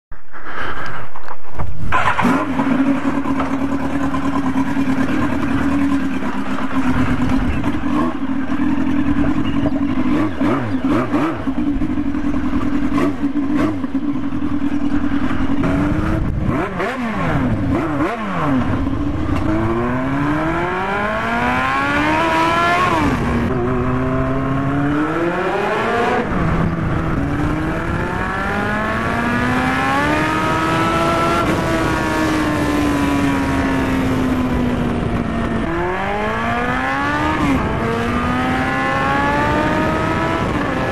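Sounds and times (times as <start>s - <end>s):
loud motorcycle engine accelerating: 1.9s - 40.9s.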